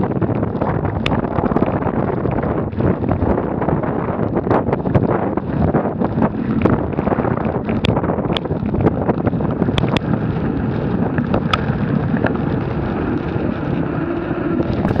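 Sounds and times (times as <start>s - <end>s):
bike clicks and rattles: 0.0s - 12.4s
wind buffeting microphone: 0.0s - 15.0s.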